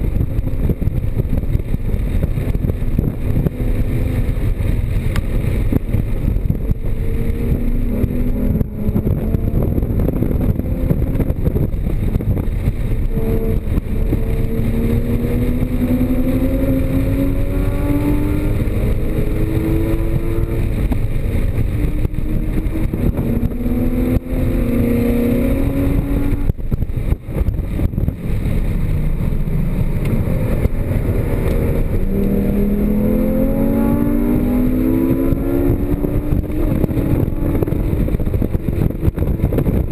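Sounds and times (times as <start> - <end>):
car engine accelerating hard: 0.0 - 39.9
wind and road noise rumble: 0.0 - 39.9.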